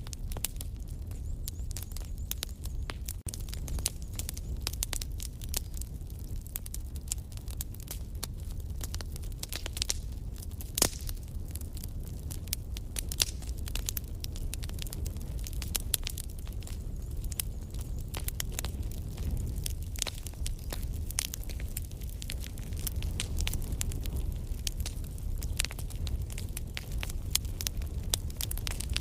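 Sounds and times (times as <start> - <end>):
low rumble of flames: 0.0 - 29.0
wood fire crackling: 0.0 - 29.0.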